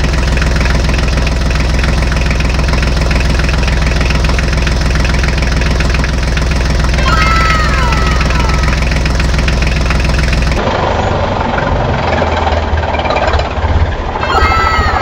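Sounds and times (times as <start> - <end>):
engine low pulsing: 0.0 - 15.0
tractor engine chugging: 0.0 - 15.0.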